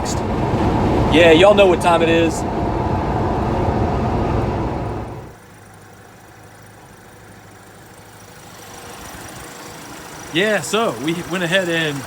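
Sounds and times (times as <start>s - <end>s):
road and engine noise in cab: 0.0s - 12.0s.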